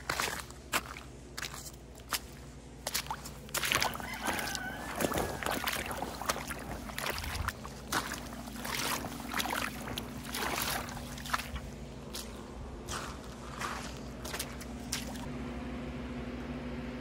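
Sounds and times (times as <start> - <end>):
boots splashing through mud: 0.0 - 15.3.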